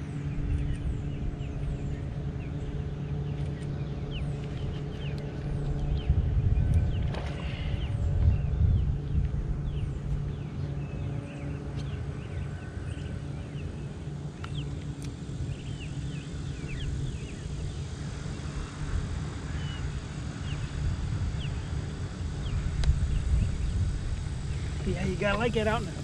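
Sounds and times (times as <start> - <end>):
birds chirping: 0.0 - 18.5, 19.5 - 26.0
steady low rumble: 0.0 - 26.0.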